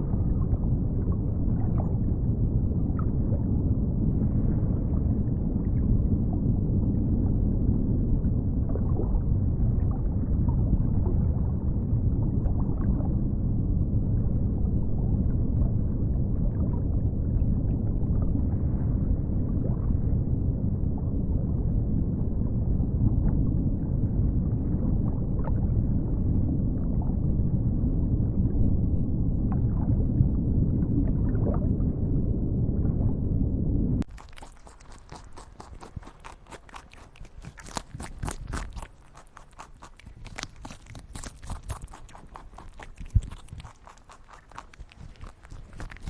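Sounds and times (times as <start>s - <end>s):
faint gurgles and ticks: 0.0s - 28.6s, 34.0s - 46.0s.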